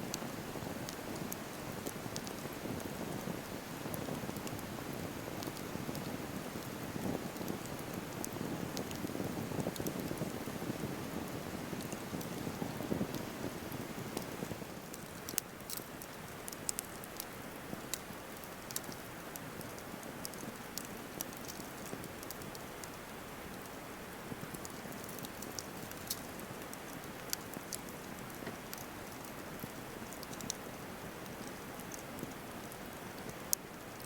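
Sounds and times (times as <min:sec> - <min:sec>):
campfire hissing and crackling: 0:00.0 - 0:34.0.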